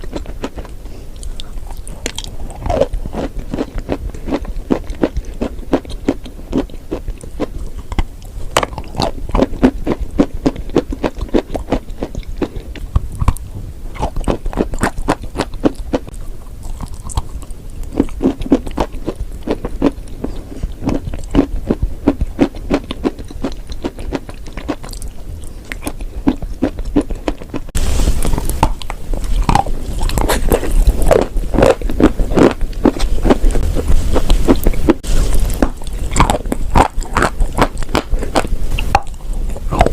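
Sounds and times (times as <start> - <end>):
background hiss: 0.0 - 39.9
chewing crunchy chalk: 0.0 - 39.9.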